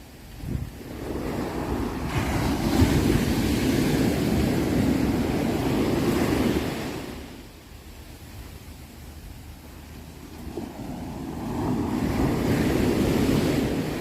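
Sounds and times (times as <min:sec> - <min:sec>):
sea wave washing: 0:00.2 - 0:14.0.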